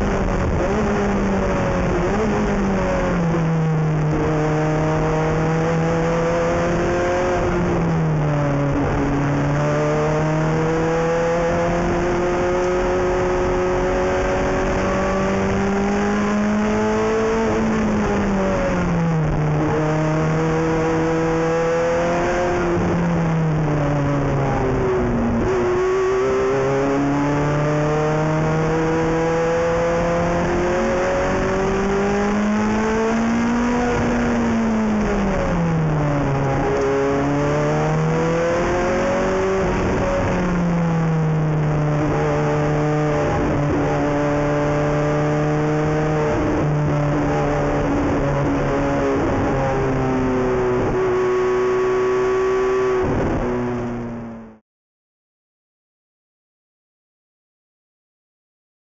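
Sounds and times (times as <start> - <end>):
race car engine revving: 0.0 - 54.1.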